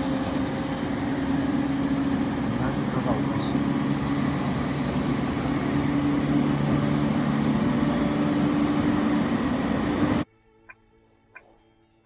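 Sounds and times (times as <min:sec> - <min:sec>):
train running rumble: 0:00.0 - 0:10.3.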